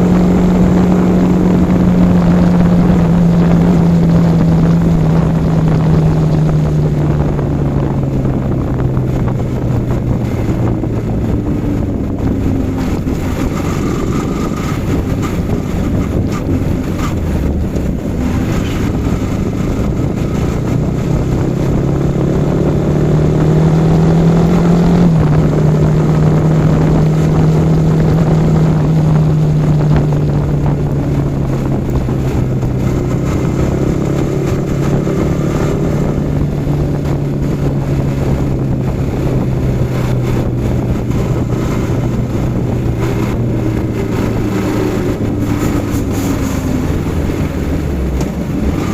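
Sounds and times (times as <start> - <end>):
motorcycle engine revving: 0.0 - 48.9
wind rushing: 0.0 - 48.9.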